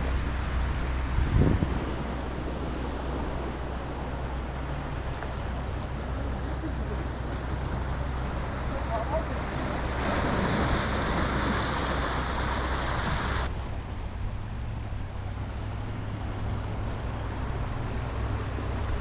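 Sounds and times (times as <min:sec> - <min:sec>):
sea waves washing on beach: 0:00.0 - 0:19.0
wind rumbling on microphone: 0:00.0 - 0:19.0.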